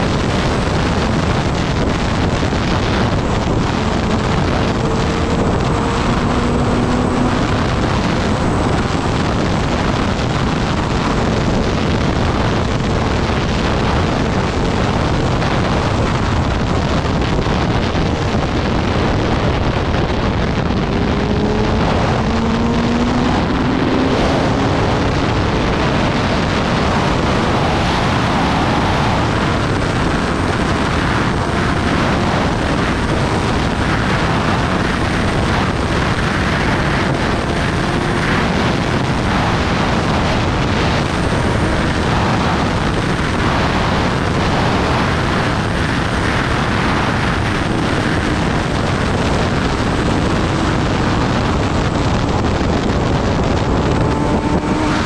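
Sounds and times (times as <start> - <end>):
motorcycle engine at speed: 0.0 - 55.0
wind rushing over microphone: 0.0 - 55.0.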